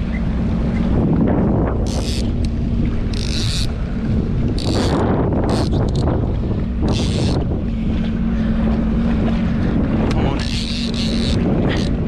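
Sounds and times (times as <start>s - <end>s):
jet ski engine running: 0.0s - 12.0s
wind buffeting microphone: 0.0s - 12.0s.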